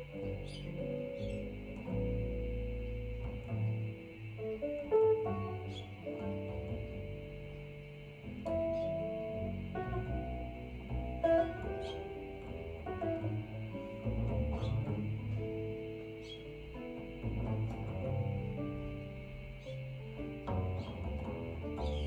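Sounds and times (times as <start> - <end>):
bass line: 0.0 - 22.0
plucked ringing notes: 0.0 - 22.0.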